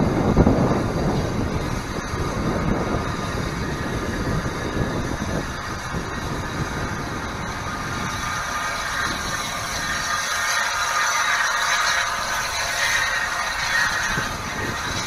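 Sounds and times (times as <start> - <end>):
steam locomotive rumbling: 0.0 - 15.0.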